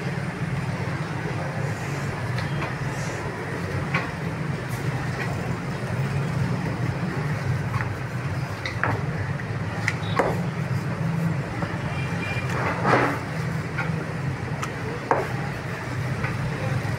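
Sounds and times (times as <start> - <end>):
street traffic hum: 0.0 - 16.9.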